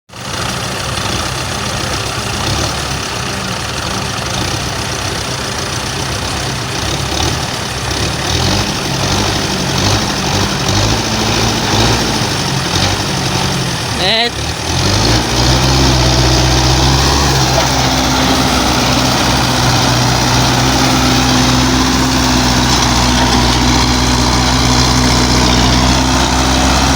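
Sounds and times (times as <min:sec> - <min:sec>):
tractor diesel engine running: 0:00.1 - 0:26.9.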